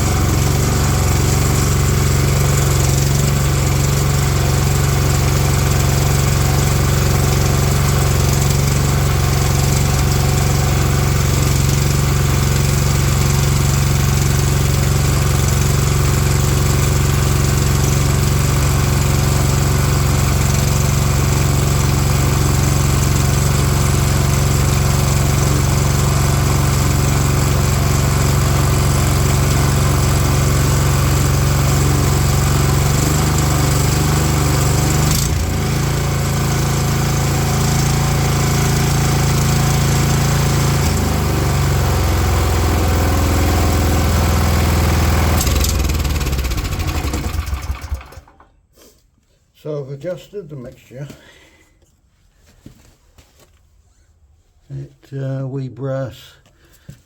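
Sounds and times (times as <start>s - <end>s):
small petrol engine running: 0.0s - 48.5s.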